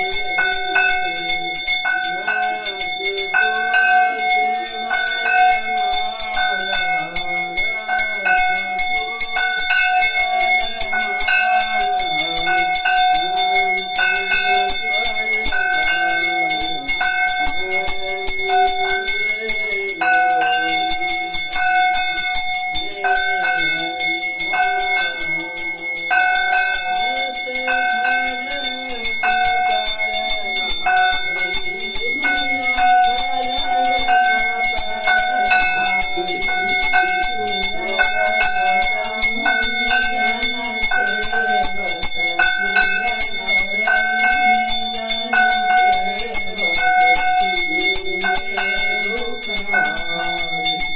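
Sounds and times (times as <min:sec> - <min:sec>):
brass hand bell ringing rapidly: 0:00.0 - 0:50.9.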